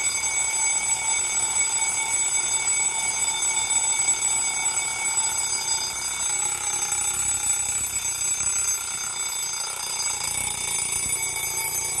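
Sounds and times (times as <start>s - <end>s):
alarm clock bell ringing: 0.0s - 12.0s.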